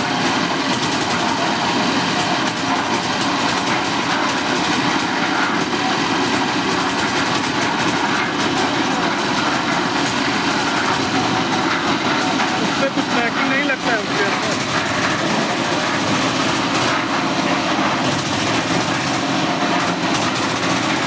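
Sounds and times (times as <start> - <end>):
concrete mixer running: 0.0 - 21.0
rapid rattle of clicks: 0.0 - 21.0.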